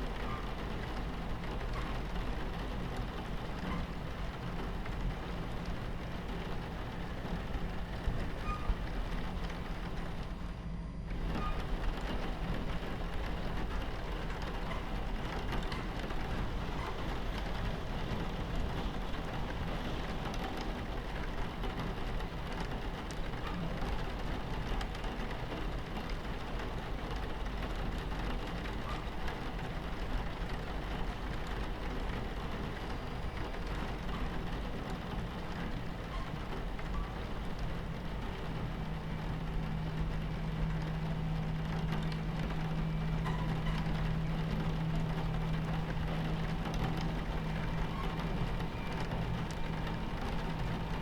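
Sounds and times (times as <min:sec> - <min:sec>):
rain on a train window: 0:00.0 - 0:51.0
train rumbling on tracks: 0:00.0 - 0:51.0.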